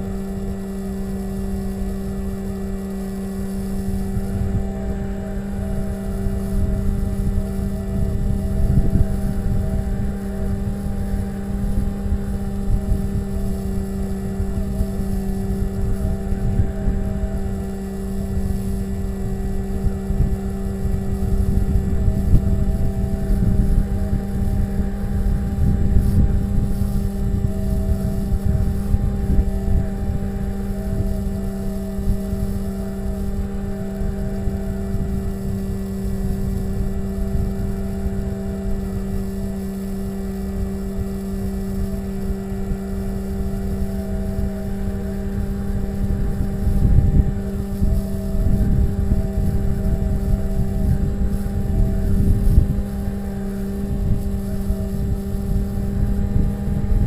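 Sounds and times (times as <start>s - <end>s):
electric motor and propeller: 0.0s - 57.0s
wind rumbling on microphone: 0.0s - 57.0s.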